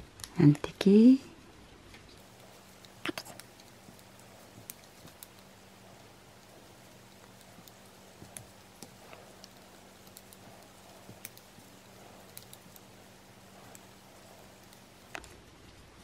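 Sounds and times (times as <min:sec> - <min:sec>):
low steady hum: 0:00.0 - 0:16.0
knitting needles clicking: 0:02.2 - 0:15.4.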